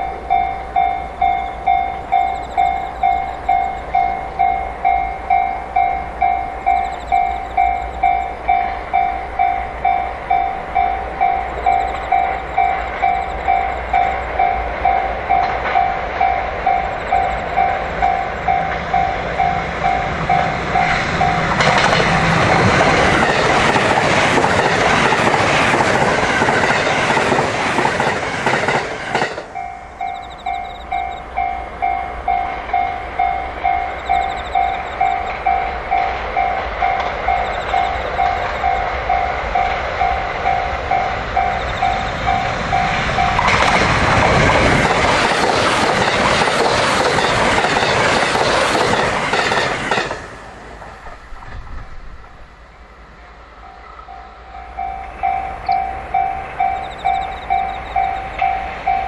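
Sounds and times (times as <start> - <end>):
railway warning bell ringing: 0.0 - 50.2, 53.6 - 59.0
train passing at speed: 0.0 - 59.0.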